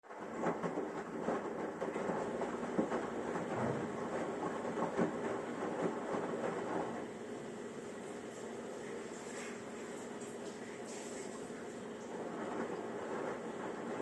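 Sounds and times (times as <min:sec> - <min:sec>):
washing machine drum churning: 0:00.0 - 0:14.0
washing machine knocking: 0:00.2 - 0:14.0.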